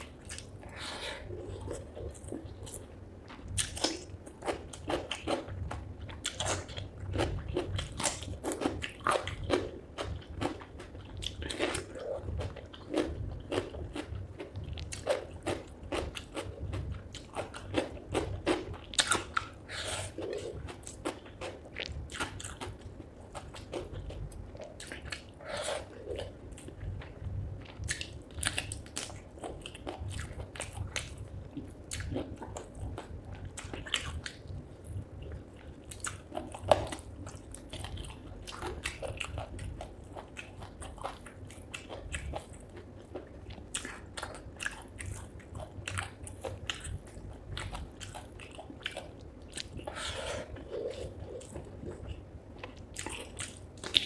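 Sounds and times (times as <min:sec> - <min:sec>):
chewing and crunching: 0:00.0 - 0:54.0.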